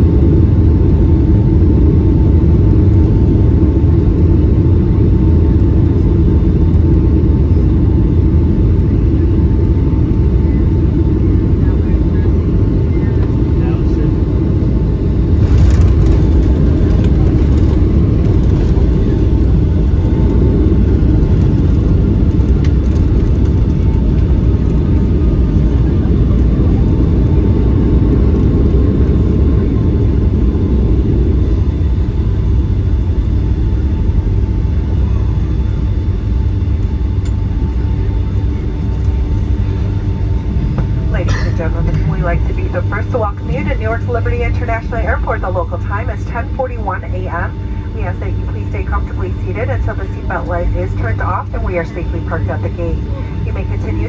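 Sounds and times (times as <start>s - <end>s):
aircraft cabin low rumble: 0.0s - 54.0s
faint steady engine tones: 0.0s - 54.0s.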